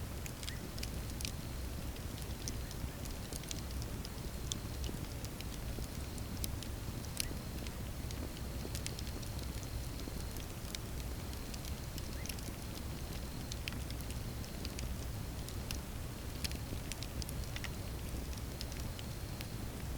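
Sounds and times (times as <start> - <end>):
fire crackling and popping: 0.0 - 19.9.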